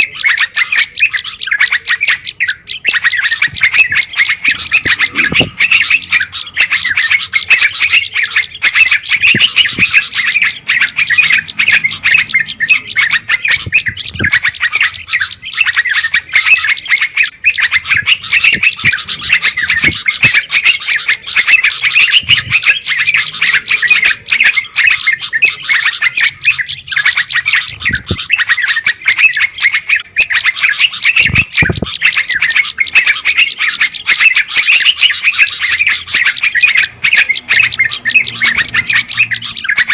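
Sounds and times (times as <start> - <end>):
songbird flock chattering: 0.0 - 39.9.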